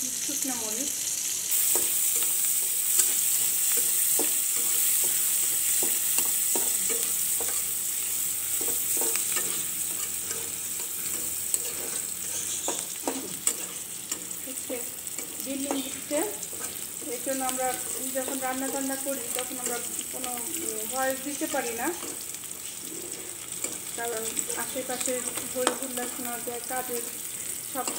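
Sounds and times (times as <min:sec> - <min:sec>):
food sizzling in hot oil: 0:00.0 - 0:27.9
spatula scraping and knocking pan: 0:01.6 - 0:27.1.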